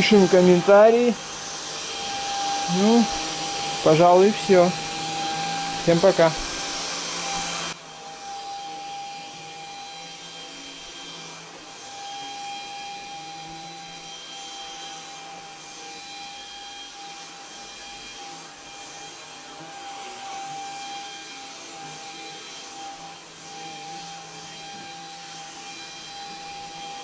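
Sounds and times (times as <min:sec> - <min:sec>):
stick vacuum cleaner motor whine: 0:00.0 - 0:27.0.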